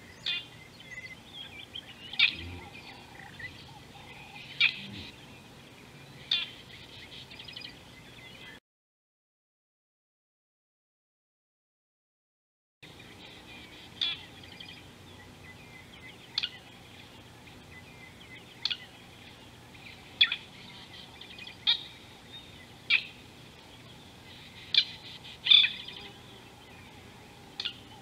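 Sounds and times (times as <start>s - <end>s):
faint birds chirping: 0.0s - 8.6s, 12.8s - 28.0s.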